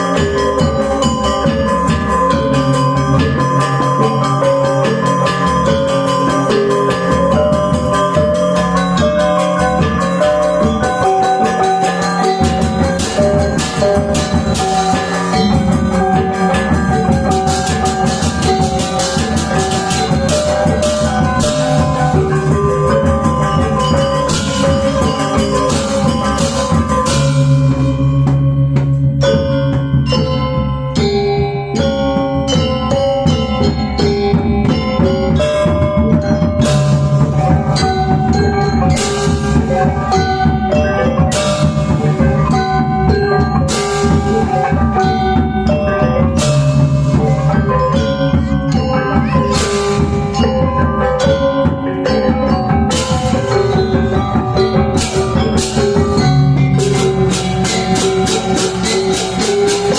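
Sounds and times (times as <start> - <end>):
metallophones ringing: 0.0 - 59.9.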